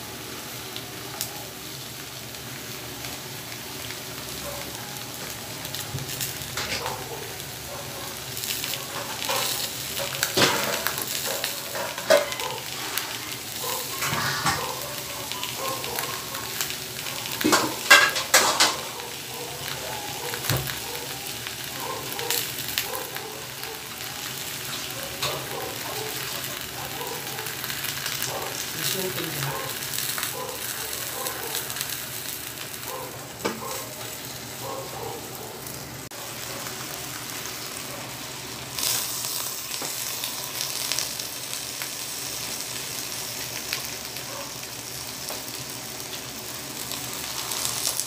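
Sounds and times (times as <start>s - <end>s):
food sizzling and crackling: 0.0s - 48.0s.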